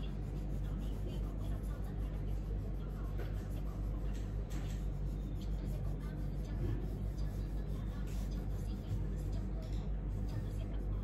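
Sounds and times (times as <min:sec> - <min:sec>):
low electrical hum: 0:00.0 - 0:11.0
pencil scratching on paper: 0:00.0 - 0:11.0.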